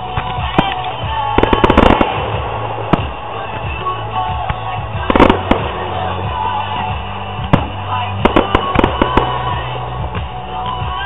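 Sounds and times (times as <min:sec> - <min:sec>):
fireworks bursting with bangs: 0:00.0 - 0:11.0
steady music: 0:00.0 - 0:11.0.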